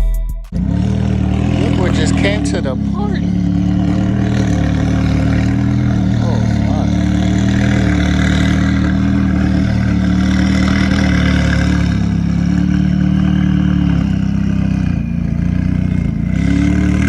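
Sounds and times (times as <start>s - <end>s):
car engine idling: 0.5s - 17.0s.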